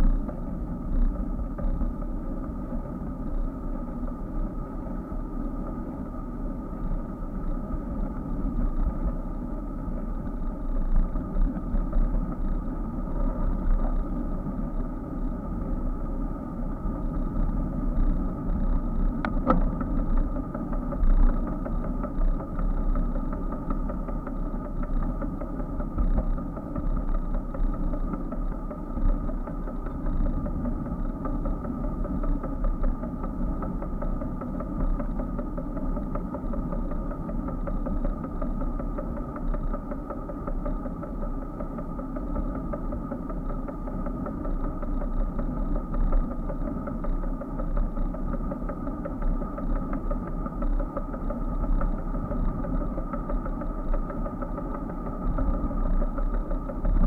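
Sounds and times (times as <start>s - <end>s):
constant hum: 0.0s - 57.0s
road vibration: 0.0s - 57.0s.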